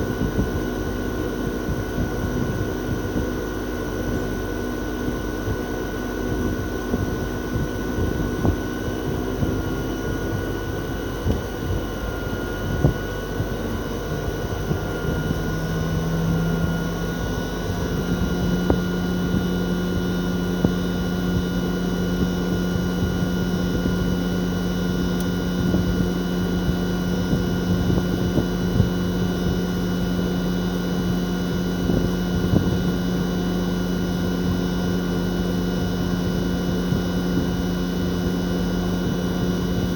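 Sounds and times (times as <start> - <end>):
compressor hum: 0.0 - 39.9.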